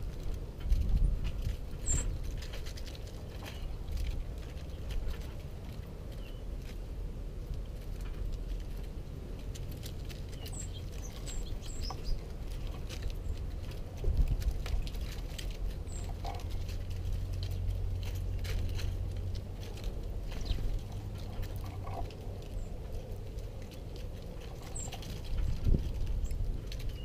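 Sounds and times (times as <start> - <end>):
birds pecking and hopping: 0.0 - 27.0.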